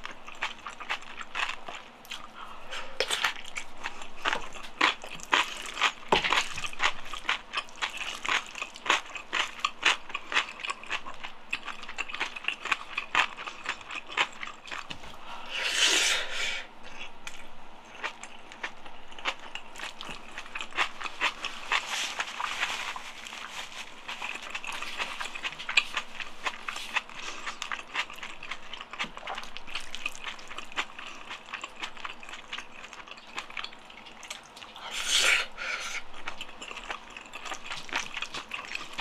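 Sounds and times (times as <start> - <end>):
close chewing with mouth clicks: 0.0 - 15.5, 16.2 - 39.0.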